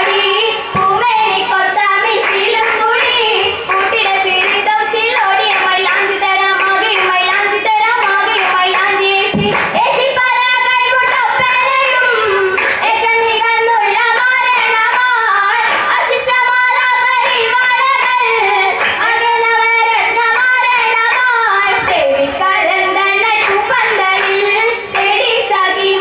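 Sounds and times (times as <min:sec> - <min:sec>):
handclaps: 0:00.0 - 0:13.2, 0:13.8 - 0:19.3, 0:20.1 - 0:22.1, 0:23.2 - 0:26.0
girls choir singing: 0:00.0 - 0:26.0.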